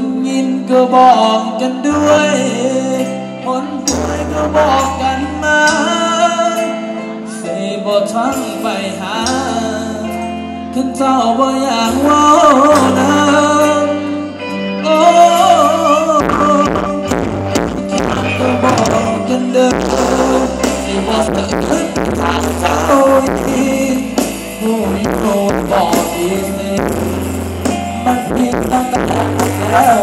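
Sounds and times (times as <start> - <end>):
live band music: 0.0 - 30.0
person singing: 0.0 - 30.0.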